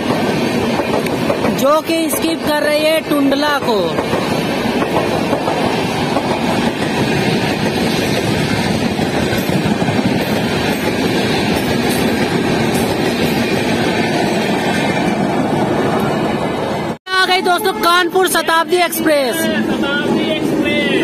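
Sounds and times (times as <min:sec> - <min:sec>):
train wheels rushing on rails: 0:00.0 - 0:21.0.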